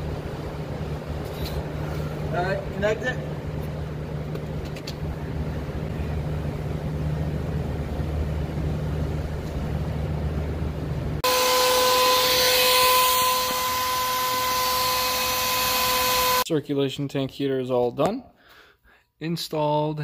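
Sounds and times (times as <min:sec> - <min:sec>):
low electric pump hum: 0:00.0 - 0:16.4.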